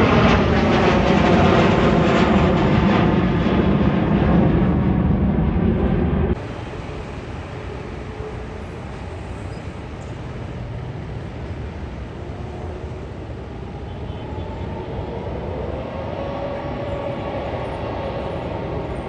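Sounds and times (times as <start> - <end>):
aircraft engines rumbling: 0.0 - 19.0
faint engine whine: 0.0 - 19.0.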